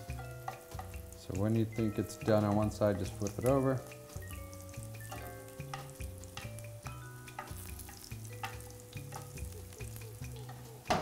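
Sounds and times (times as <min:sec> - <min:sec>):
tofu sizzling in hot oil: 0:00.0 - 0:11.0.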